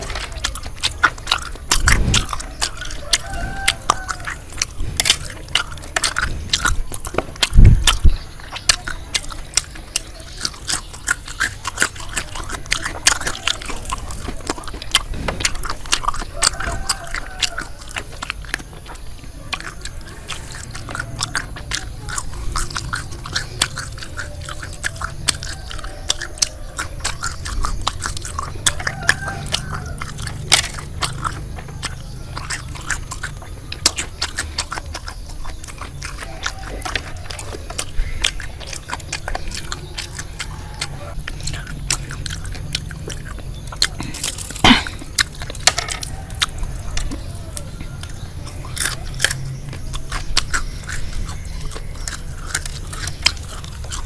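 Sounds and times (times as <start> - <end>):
chewing crunchy fried food: 0.0 - 54.0.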